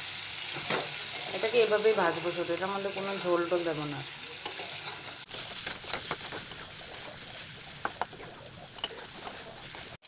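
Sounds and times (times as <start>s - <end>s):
chicken sizzling in oil: 0.0s - 10.0s
oil popping and crackling: 0.5s - 10.0s.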